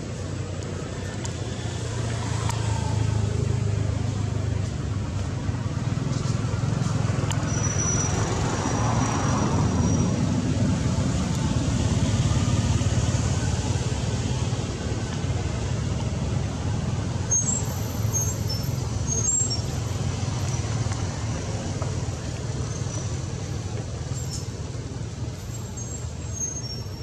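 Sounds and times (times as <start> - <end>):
road traffic drone: 0.0 - 27.0.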